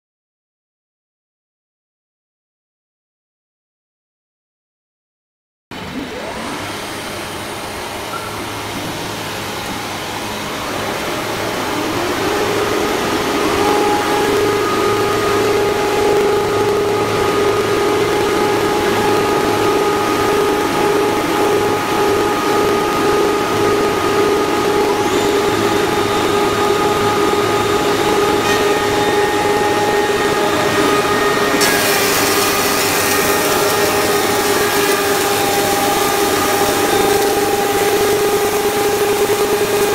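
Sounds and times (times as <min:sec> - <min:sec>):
machine hum with high whine: 0:05.7 - 0:39.9.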